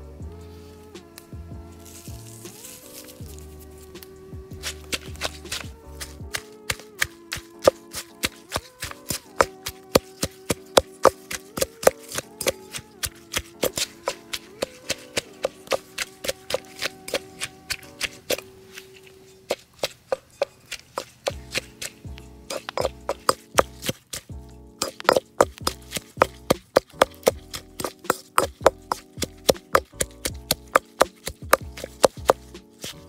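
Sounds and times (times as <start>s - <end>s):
pestle pounding in metal bowl: 4.6s - 18.5s, 19.5s - 33.0s.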